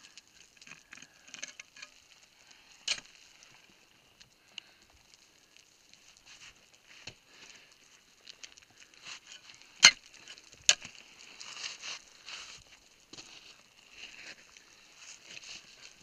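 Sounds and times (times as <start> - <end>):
small crunches and clicks: 0.0 - 16.0.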